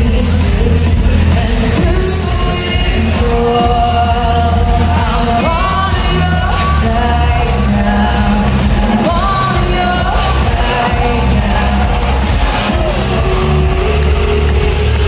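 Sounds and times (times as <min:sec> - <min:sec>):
trance music over sound system: 0:00.0 - 0:15.0
woman singing: 0:00.0 - 0:15.0.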